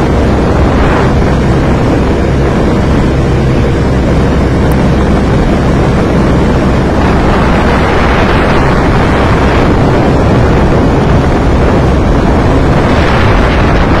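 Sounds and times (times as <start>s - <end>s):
tractor engine running: 0.0s - 14.0s
wind buffeting microphone: 0.0s - 14.0s.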